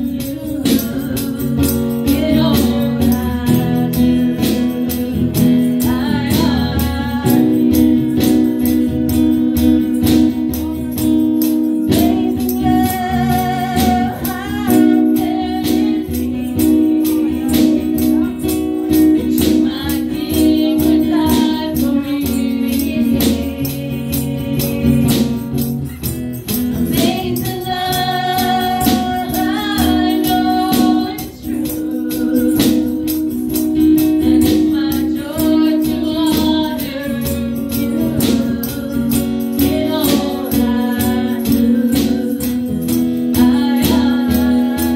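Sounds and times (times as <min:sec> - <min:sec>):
shaken percussion beat: 0:00.0 - 0:44.9
woman singing into microphone: 0:00.0 - 0:44.9.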